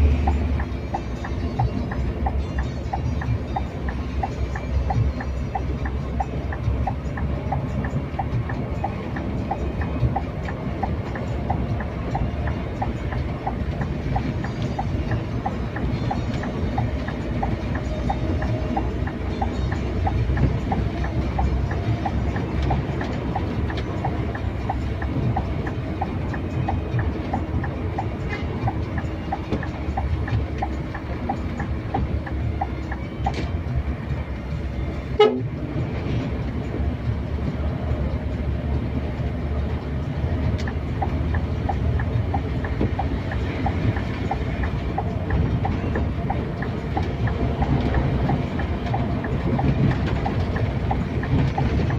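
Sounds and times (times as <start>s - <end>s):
light regular ticking: 0.0s - 35.1s, 35.8s - 51.9s
coach engine rumble: 0.0s - 51.9s.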